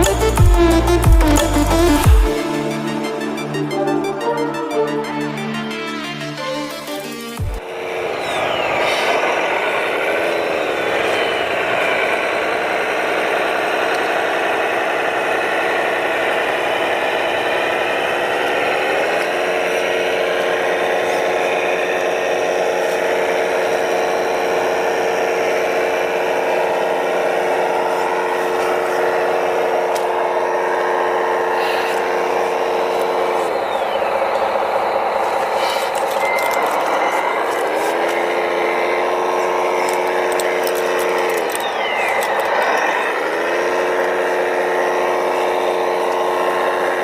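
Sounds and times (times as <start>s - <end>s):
small motor whirring: 6.3s - 47.0s.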